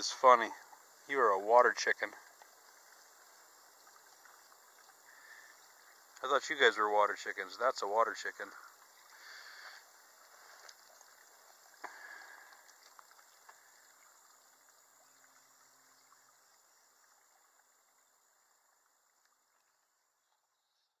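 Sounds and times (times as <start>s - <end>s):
small stream trickling: 0.0s - 21.0s.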